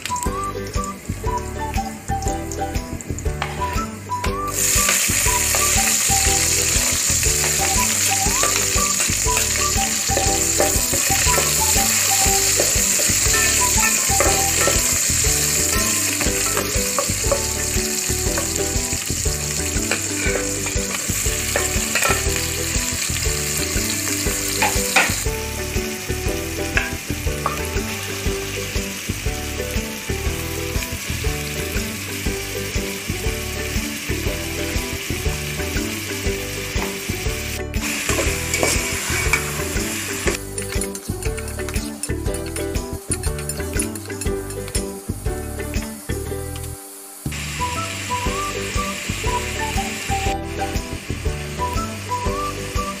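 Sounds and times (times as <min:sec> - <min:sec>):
onions sizzling in oil: 0:00.0 - 0:53.0.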